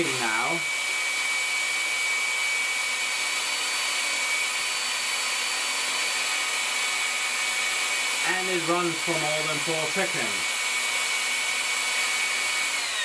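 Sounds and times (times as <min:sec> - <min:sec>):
stick vacuum running: 0:00.0 - 0:13.0.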